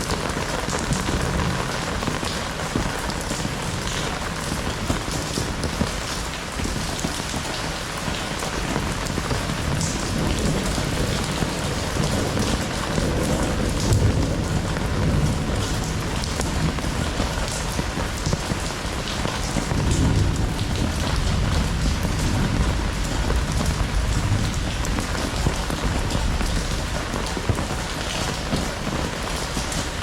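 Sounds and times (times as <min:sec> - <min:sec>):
heavy rain hissing: 0:00.0 - 0:30.0
raindrops ticking on surfaces: 0:00.0 - 0:30.0.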